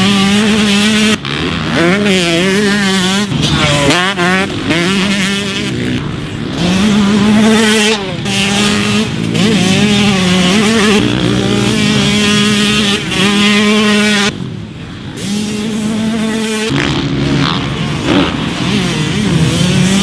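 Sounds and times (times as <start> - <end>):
two-stroke motocross bike revving: 0.0 - 20.0.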